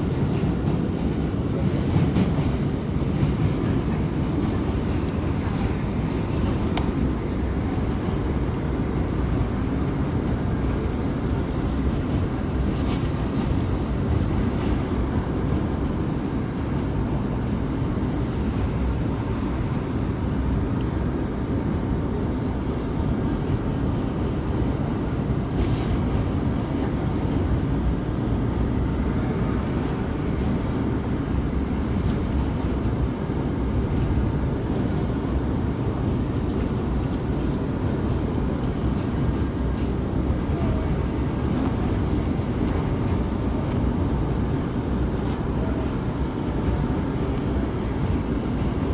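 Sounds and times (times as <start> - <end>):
rumble of wheels on rail: 0.0 - 48.9.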